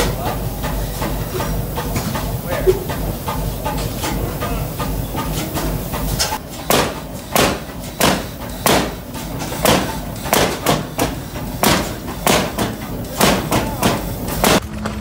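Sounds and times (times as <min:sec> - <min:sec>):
stationary engine exhaust bangs: 0:00.0 - 0:15.0.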